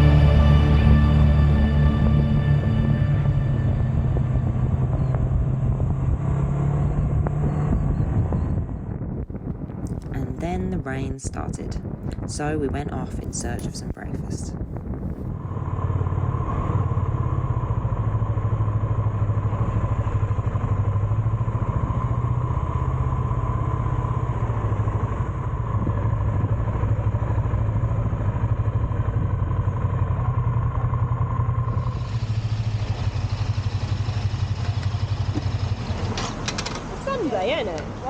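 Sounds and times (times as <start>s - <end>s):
motorcycle engine running: 0.0s - 9.7s, 14.5s - 38.0s.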